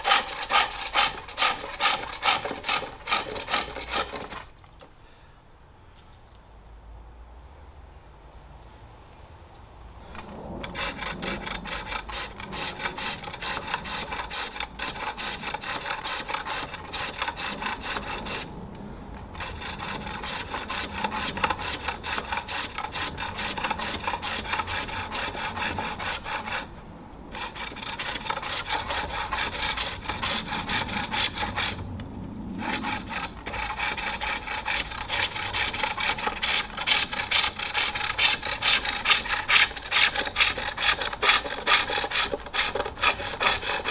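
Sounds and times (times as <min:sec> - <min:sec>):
hook tool rasping wood: 0:00.0 - 0:04.5, 0:10.6 - 0:18.5, 0:19.4 - 0:26.7, 0:27.4 - 0:31.8, 0:32.6 - 0:43.9.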